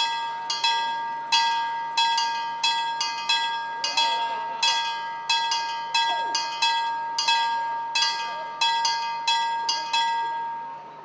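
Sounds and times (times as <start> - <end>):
level crossing bells ringing: 0.0 - 11.0.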